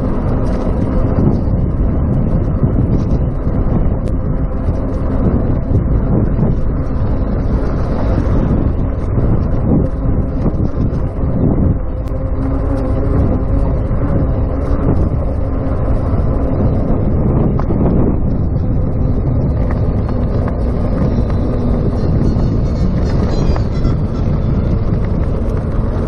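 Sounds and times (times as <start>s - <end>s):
bicycle road noise: 0.0s - 26.0s
wind rushing over microphone: 0.0s - 26.0s.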